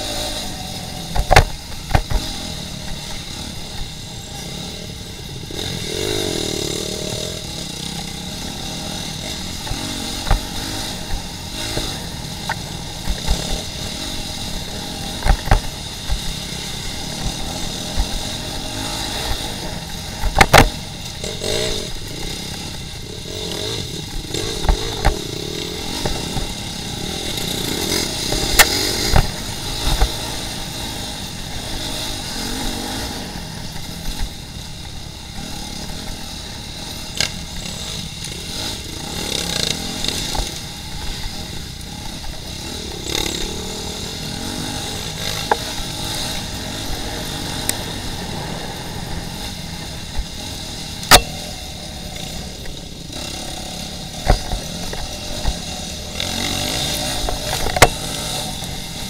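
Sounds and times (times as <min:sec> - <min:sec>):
bike rattles and knocks: 0:00.0 - 0:59.0
dirt bike engine revving: 0:00.0 - 0:59.0.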